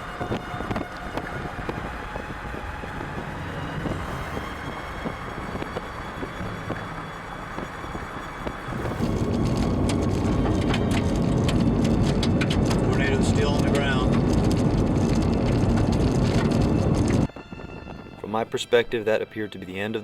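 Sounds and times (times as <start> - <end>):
road and wind noise in car: 0.0 - 18.4.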